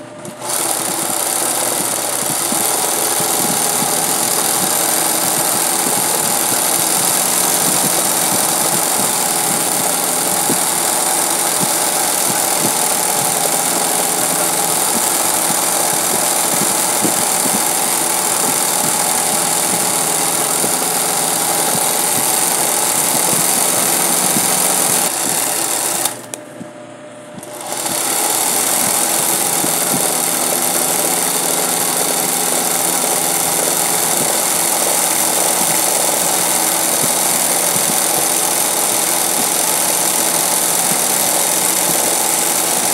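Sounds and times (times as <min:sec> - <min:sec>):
sewing machine running: 0:00.0 - 0:26.4, 0:27.4 - 0:42.9.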